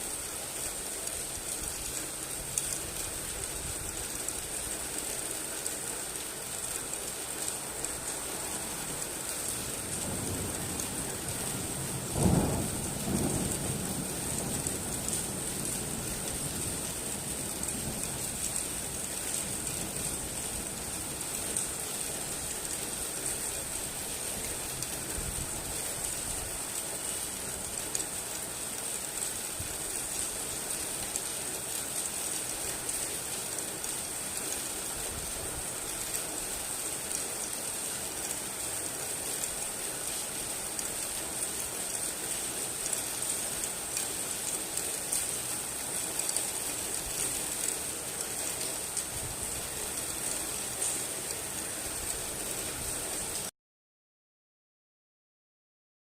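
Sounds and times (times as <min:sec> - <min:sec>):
heavy rain pattering: 0:00.0 - 0:53.5.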